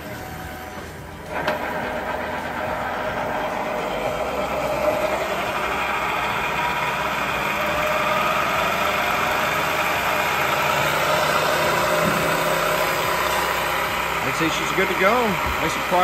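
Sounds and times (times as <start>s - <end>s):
transmission mechanical whine: 0.0s - 16.0s.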